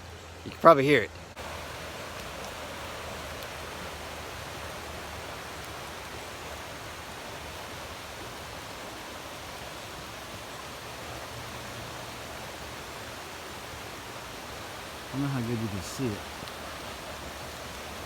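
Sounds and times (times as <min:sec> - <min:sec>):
creek rushing: 0:00.0 - 0:18.0.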